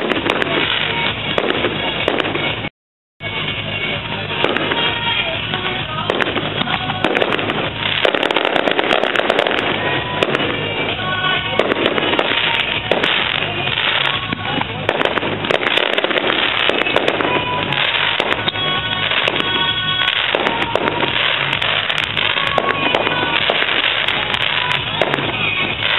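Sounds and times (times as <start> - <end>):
fireworks bangs and crackling: 0.0 - 25.9
music playing: 0.0 - 25.9.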